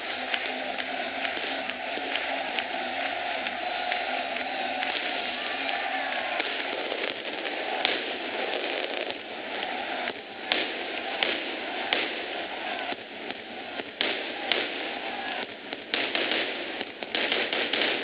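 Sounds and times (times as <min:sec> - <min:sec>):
firecrackers banging: 0:00.0 - 0:18.0
football crowd din: 0:00.0 - 0:18.0.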